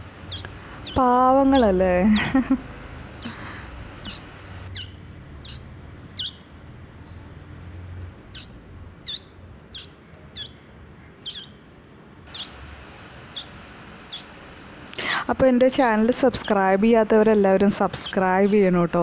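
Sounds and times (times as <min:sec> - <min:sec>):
baby birds begging calls: 0:00.0 - 0:06.5, 0:08.3 - 0:10.6, 0:11.2 - 0:11.6, 0:12.3 - 0:19.0.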